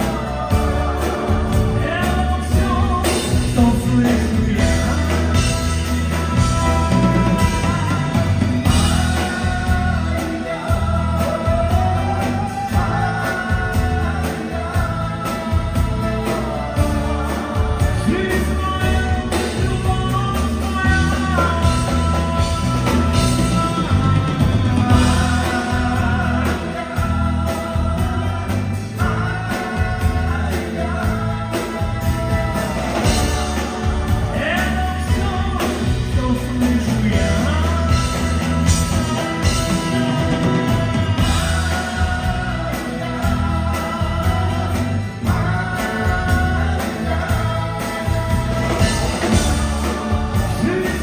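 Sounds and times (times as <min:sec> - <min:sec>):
live rock band playing: 0:00.0 - 0:51.0
person singing: 0:00.0 - 0:51.0.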